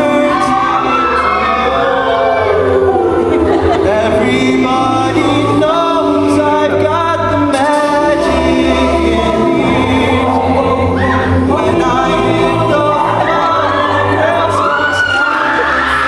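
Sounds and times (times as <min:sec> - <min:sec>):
a cappella group singing in harmony: 0:00.0 - 0:16.0.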